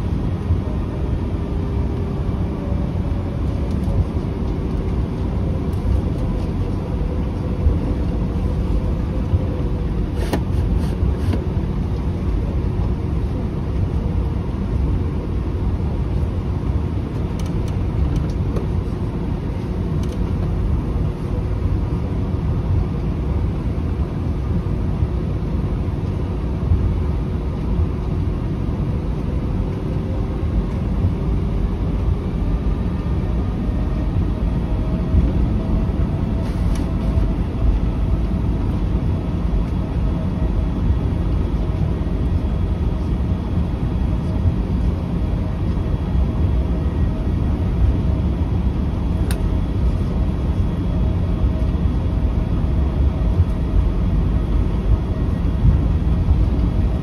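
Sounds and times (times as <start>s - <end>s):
jet engines idling in cabin: 0.0s - 57.0s.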